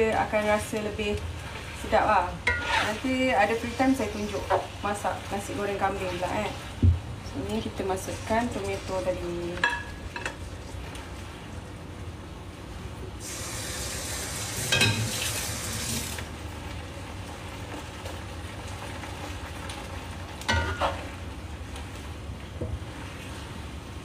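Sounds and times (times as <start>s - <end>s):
noodles sizzling in a wok: 0.0s - 10.8s, 13.2s - 22.2s.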